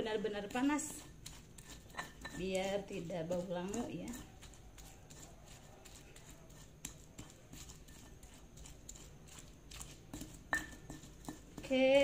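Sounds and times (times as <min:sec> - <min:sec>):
stone pestle pounding in mortar: 0:00.2 - 0:12.0.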